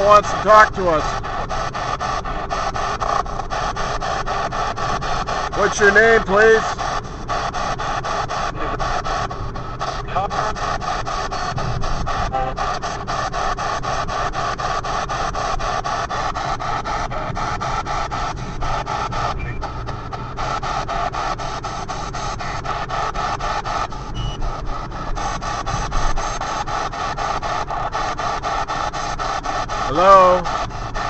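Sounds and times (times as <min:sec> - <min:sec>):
stuttering radio static: 0:00.0 - 0:31.0.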